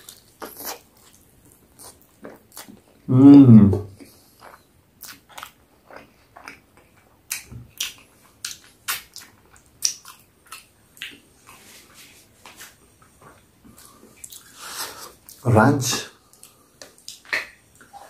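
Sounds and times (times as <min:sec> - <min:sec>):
chewing and lip smacking: 0:00.0 - 0:03.1, 0:04.0 - 0:11.7, 0:12.4 - 0:15.4, 0:16.2 - 0:18.0.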